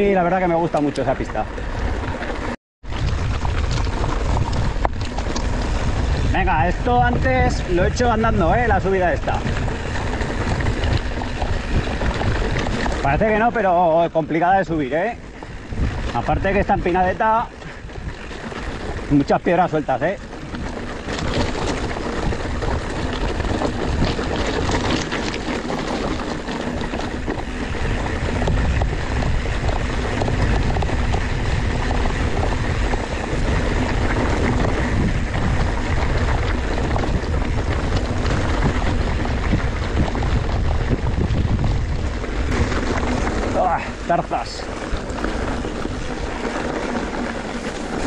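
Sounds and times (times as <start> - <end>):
bike rattling: 0.0 - 48.0
tyres crunching on stones: 0.0 - 48.0
wind buffeting microphone: 0.0 - 48.0.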